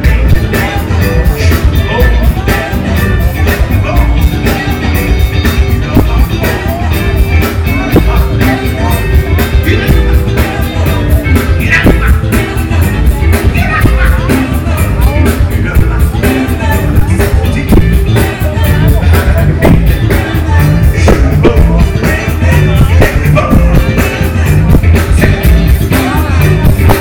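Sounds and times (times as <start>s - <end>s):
funk band playing: 0.0s - 27.0s
person singing: 0.0s - 27.0s.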